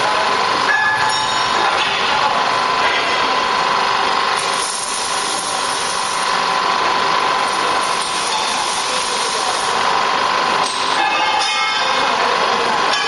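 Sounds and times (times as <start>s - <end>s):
industrial machinery running: 0.0s - 13.0s
machine whine: 0.0s - 13.0s.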